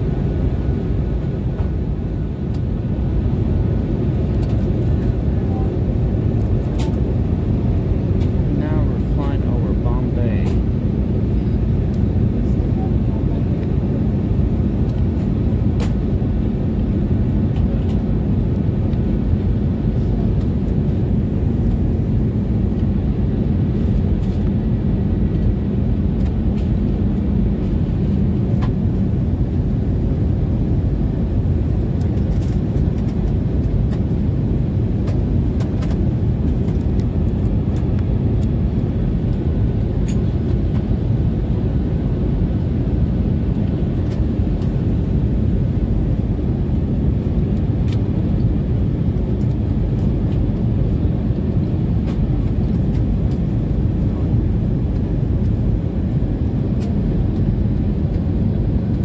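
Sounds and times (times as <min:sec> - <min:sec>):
aircraft engine and airflow noise: 0:00.0 - 0:59.0.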